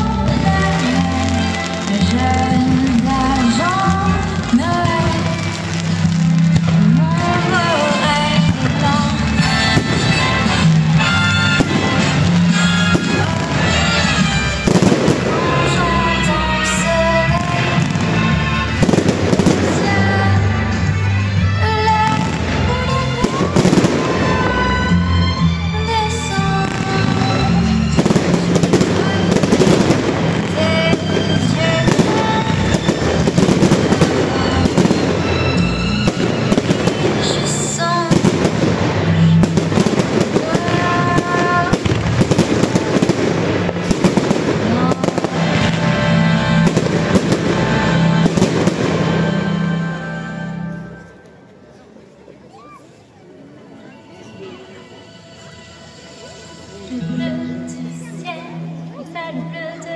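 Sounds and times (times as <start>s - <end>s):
fireworks bursting: 0.0s - 50.2s
loud show music: 0.0s - 51.0s.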